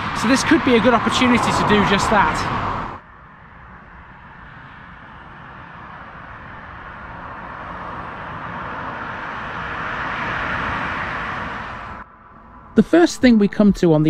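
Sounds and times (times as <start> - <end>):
car approaching on road: 0.0 - 14.0.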